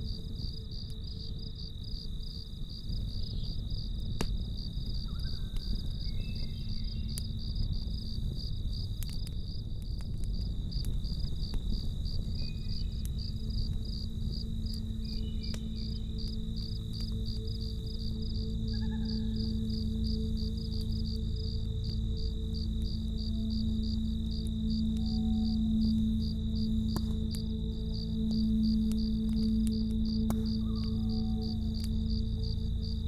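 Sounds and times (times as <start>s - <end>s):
campfire rumble: 0.0s - 33.0s
crickets chirping: 0.0s - 33.0s
fire crackling pops: 0.0s - 33.0s
soft ambient music tones: 0.0s - 33.0s.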